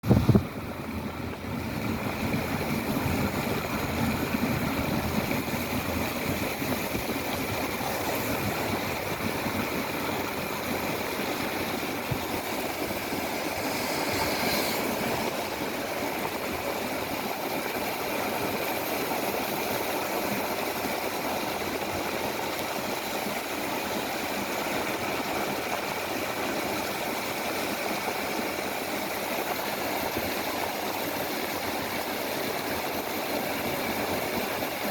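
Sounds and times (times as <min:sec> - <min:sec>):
constant rushing noise: 0:00.0 - 0:34.9.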